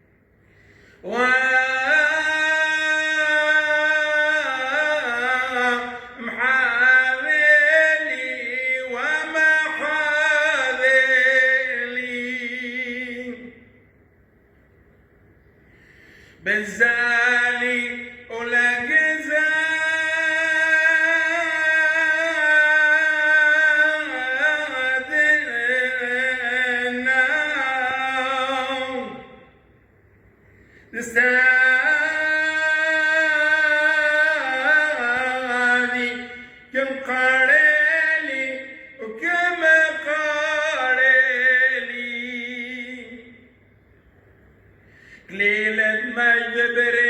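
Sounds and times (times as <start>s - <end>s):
man chanting a hymn: 1.0s - 13.6s, 16.4s - 29.6s, 30.9s - 43.4s, 45.0s - 47.0s.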